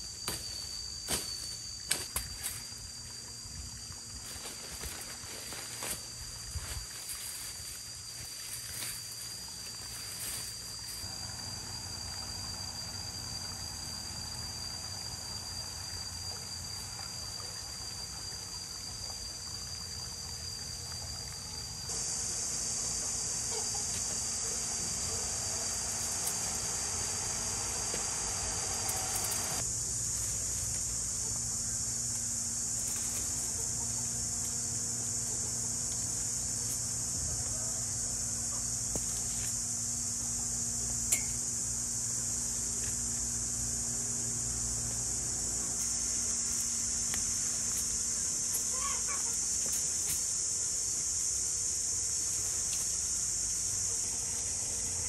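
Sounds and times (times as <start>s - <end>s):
outdoor hiss: 0.0s - 55.0s.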